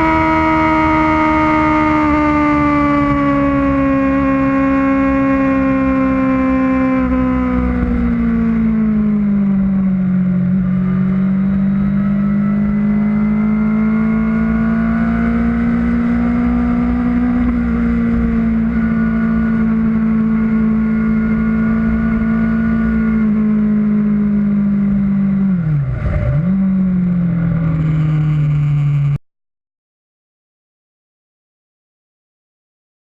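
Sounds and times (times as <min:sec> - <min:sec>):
motorcycle engine running: 0:00.0 - 0:29.2.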